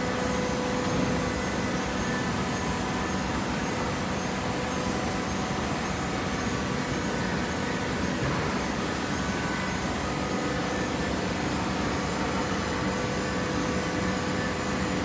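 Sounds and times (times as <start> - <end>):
baler mechanical hum: 0.0 - 15.0.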